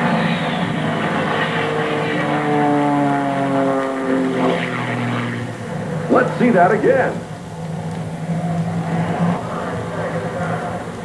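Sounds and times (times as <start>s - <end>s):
propeller plane flying past: 0.0s - 11.0s
rushing roar: 0.0s - 11.0s.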